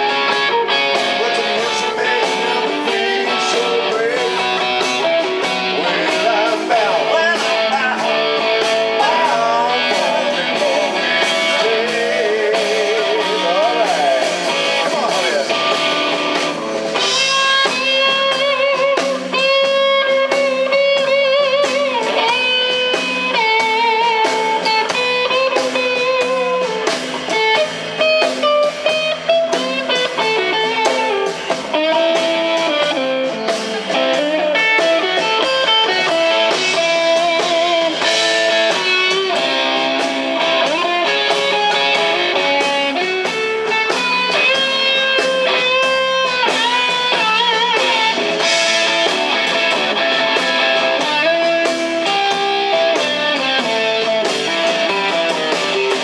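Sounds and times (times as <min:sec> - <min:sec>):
drum and cymbal beat: 0:00.0 - 0:56.0
electric guitar solo: 0:00.0 - 0:56.0.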